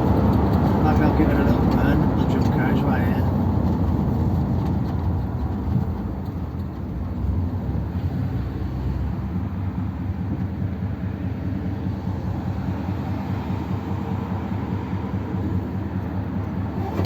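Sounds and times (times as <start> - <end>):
car engine driving: 0.0 - 17.0
road noise: 0.0 - 17.0.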